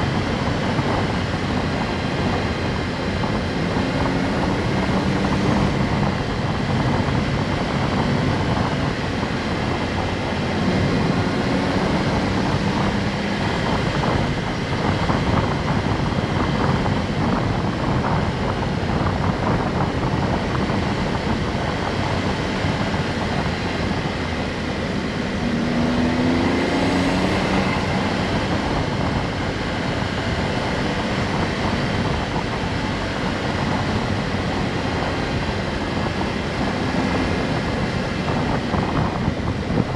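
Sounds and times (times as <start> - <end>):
road and wind noise: 0.0 - 39.9
small car engine running: 0.0 - 39.9.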